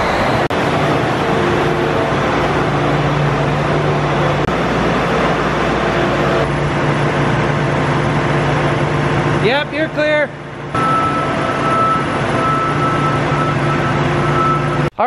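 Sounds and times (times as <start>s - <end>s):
combine engine running: 0.0s - 14.9s
steady hum: 0.0s - 15.0s.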